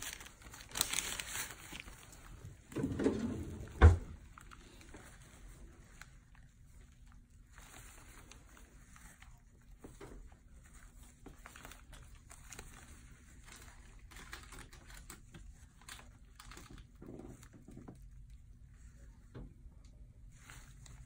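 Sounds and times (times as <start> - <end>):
gauze crinkling and rustling: 0.0 - 21.0.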